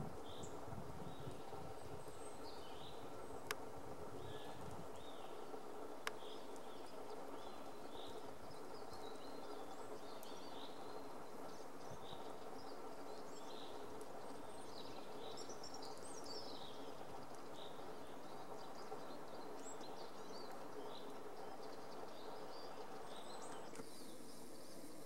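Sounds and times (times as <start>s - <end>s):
steady background hiss: 0.0s - 25.0s
small birds chirping: 0.1s - 25.0s.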